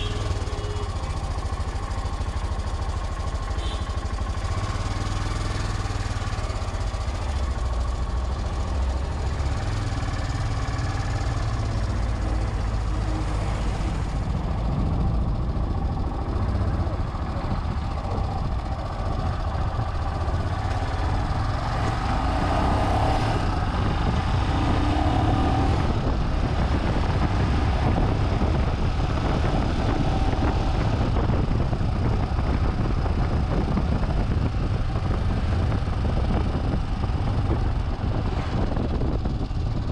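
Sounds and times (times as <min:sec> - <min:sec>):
city traffic: 0:00.0 - 0:39.9
motorcycle engine running: 0:00.0 - 0:39.9.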